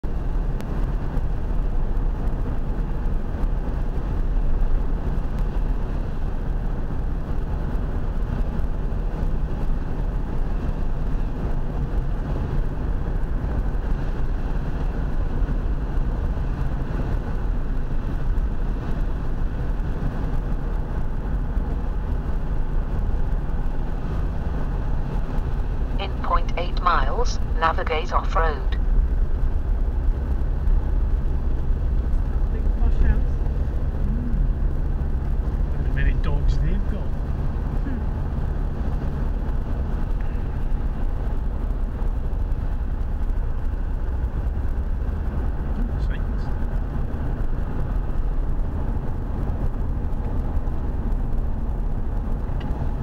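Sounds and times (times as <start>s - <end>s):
car interior engine rumble: 0.0s - 53.0s.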